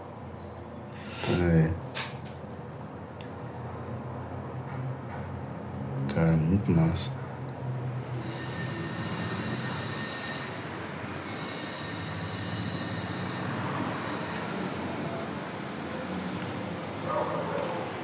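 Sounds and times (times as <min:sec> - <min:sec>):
passing vehicle rumble: 0:01.0 - 0:18.0.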